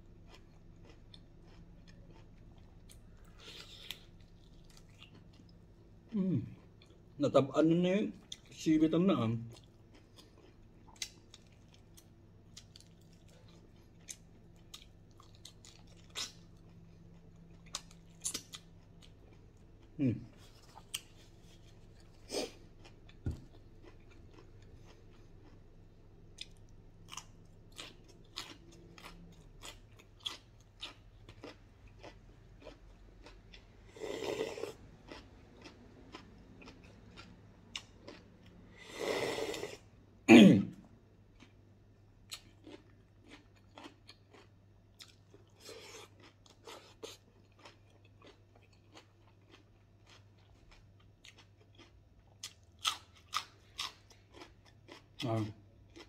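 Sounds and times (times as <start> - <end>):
person chewing and crunching: 0.0 - 7.1, 8.2 - 39.8, 42.2 - 56.0.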